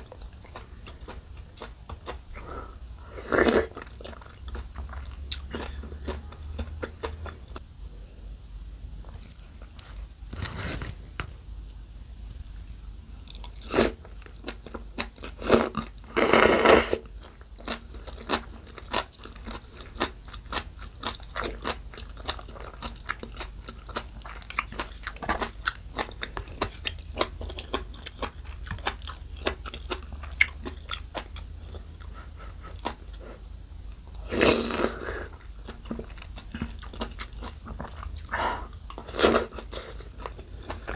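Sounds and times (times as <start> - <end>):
close chewing and crunching: 0.0 - 7.7, 12.6 - 40.9.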